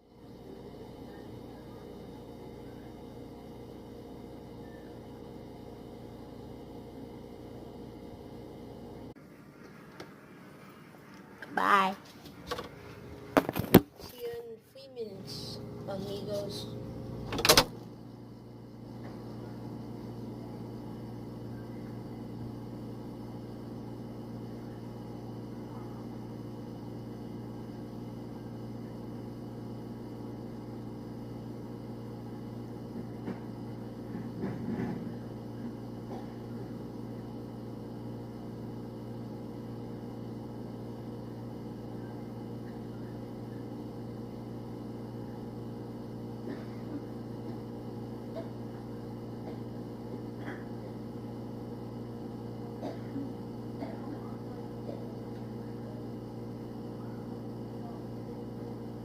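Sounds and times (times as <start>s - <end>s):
refrigerator compressor humming: 0.0s - 59.0s.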